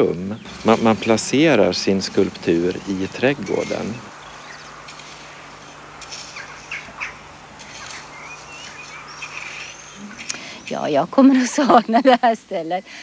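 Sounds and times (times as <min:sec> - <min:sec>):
steady low hum: 0:00.0 - 0:12.2
small birds chirping: 0:00.0 - 0:13.0.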